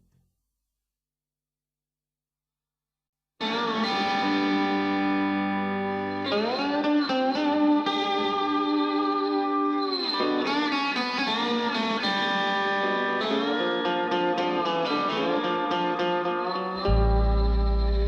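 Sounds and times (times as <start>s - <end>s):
electric guitar bending notes: 3.4s - 18.0s.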